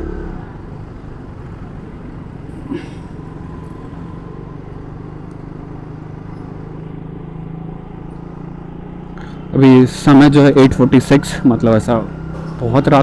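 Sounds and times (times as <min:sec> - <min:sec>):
motorcycle engine cruising: 0:00.0 - 0:13.0
traffic hum: 0:00.0 - 0:13.0.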